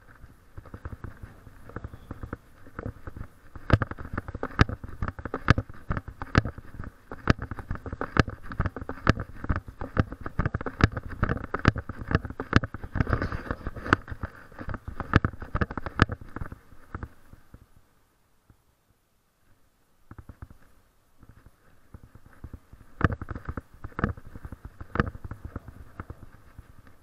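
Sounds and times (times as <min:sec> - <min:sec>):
camera rustling: 0:00.0 - 0:17.8, 0:19.4 - 0:27.0.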